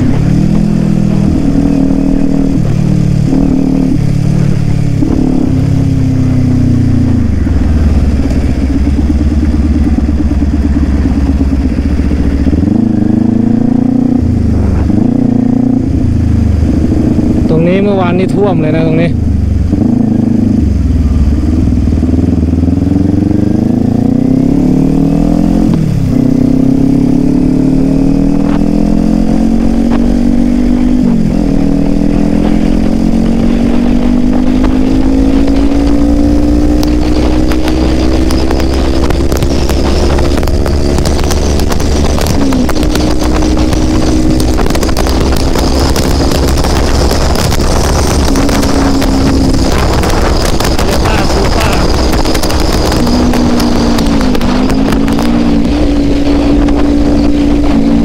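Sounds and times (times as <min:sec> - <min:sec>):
motorcycle engine shifting gears: 0:00.0 - 0:58.0
wind rush on microphone: 0:00.0 - 0:58.0.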